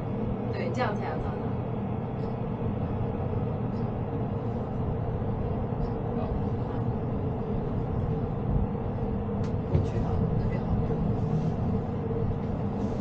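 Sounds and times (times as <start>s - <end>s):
mechanical hum and low rumble: 0.0s - 13.0s.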